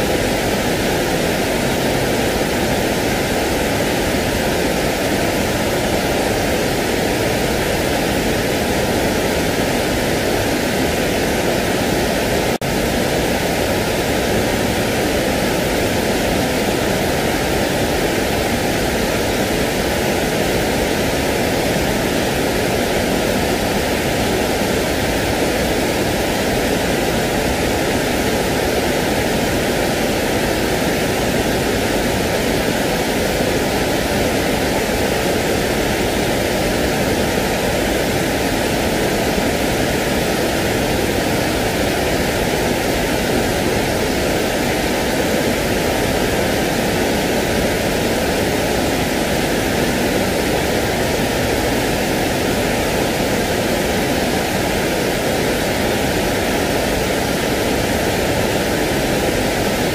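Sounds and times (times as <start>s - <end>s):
steady rushing white noise: 0.0s - 59.9s.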